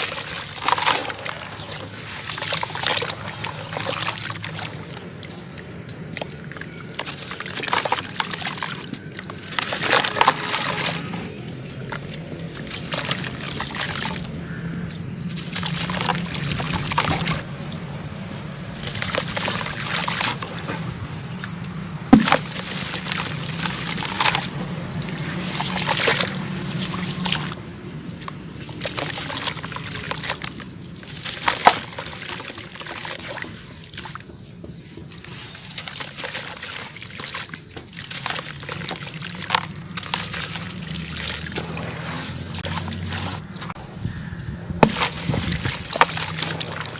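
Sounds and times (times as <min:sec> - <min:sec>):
chunks crumbling in water: 0:00.0 - 0:17.8, 0:18.8 - 0:46.9
water sloshing: 0:00.0 - 0:46.9.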